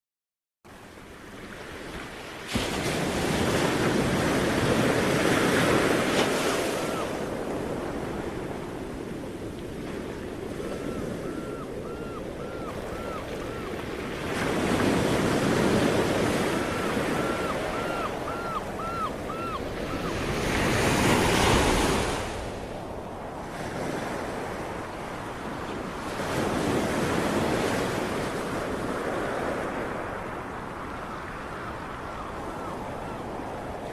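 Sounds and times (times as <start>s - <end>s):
sea waves washing on shore: 1.0s - 33.9s.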